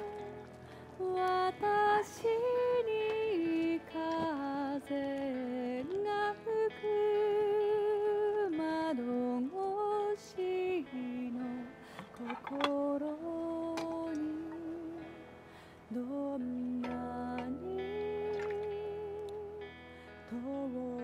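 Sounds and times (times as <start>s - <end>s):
woman singing long held notes: 0.0s - 15.2s, 15.9s - 19.7s, 20.3s - 21.0s
slow gentle song: 0.0s - 21.0s.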